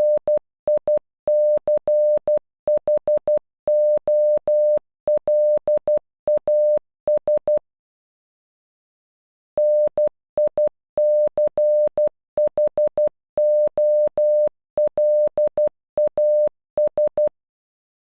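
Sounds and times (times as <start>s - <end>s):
morse code beeps: 0.0s - 7.6s, 9.6s - 17.3s.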